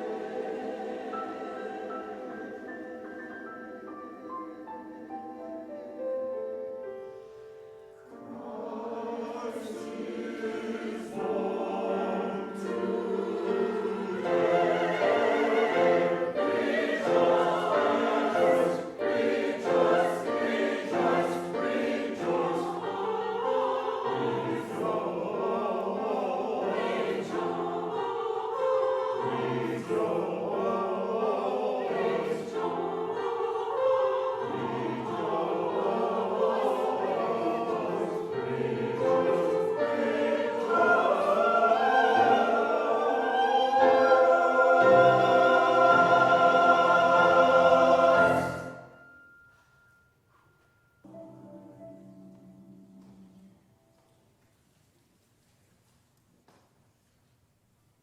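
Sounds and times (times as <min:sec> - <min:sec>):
choir singing: 0:00.0 - 0:49.3.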